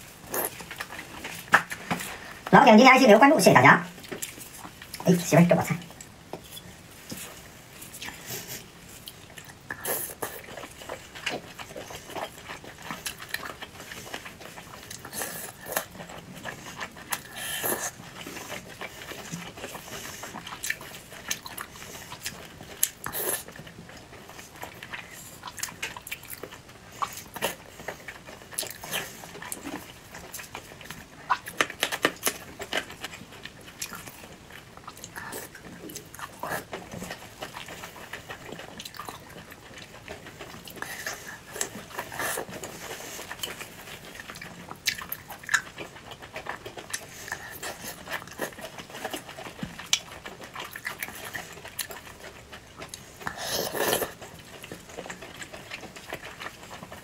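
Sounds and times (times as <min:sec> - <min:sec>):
woman chewing soft food: 0:00.0 - 0:02.5, 0:03.9 - 0:57.0.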